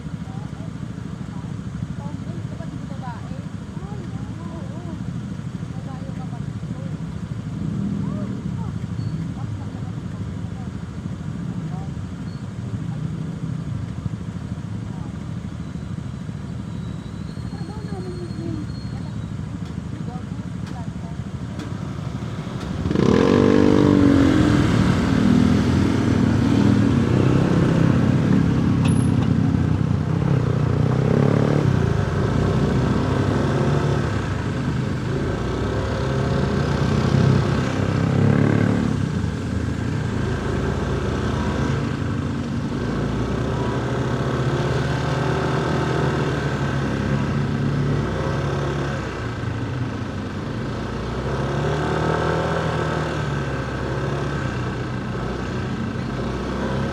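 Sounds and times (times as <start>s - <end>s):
city traffic noise: 0.0s - 56.9s
motorcycle engine revving: 0.0s - 56.9s.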